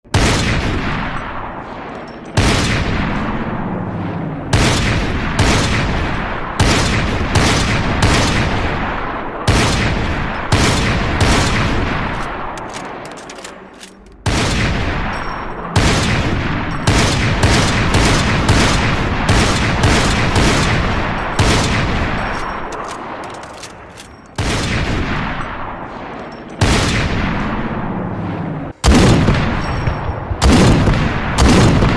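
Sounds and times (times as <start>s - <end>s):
rifle shots with rumbling echo: 0.0s - 31.9s.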